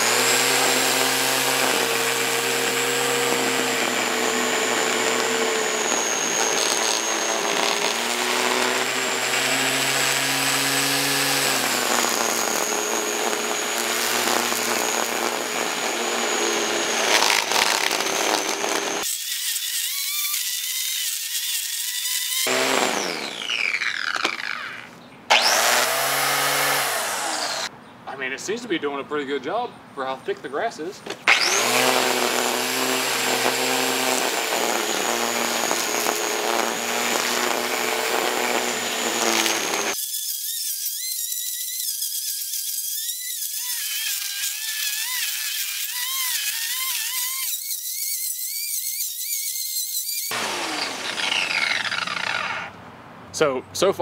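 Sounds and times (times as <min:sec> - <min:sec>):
electric string trimmer motor whine: 0:00.0 - 0:27.7, 0:31.2 - 0:52.8
trimmer line cutting thick grass: 0:00.0 - 0:27.7, 0:31.2 - 0:52.7.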